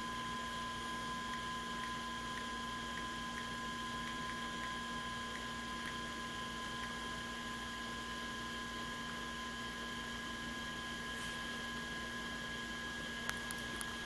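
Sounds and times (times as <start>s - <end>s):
electrical hum and whine: 0.0s - 14.0s.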